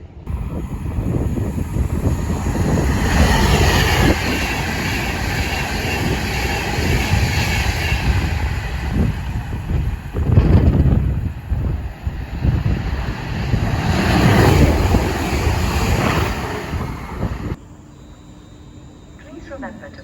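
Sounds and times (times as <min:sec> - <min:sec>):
train wheels rumbling on rail: 0:00.0 - 0:17.6.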